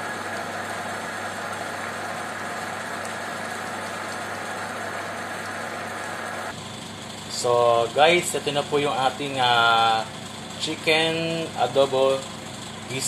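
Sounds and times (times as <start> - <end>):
sauce boiling in a pot: 0.0 - 13.0.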